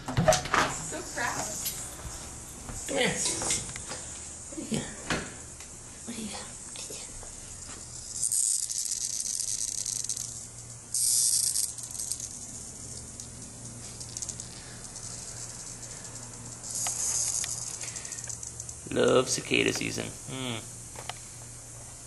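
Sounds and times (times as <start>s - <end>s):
cicadas buzzing: 0.6s - 22.0s.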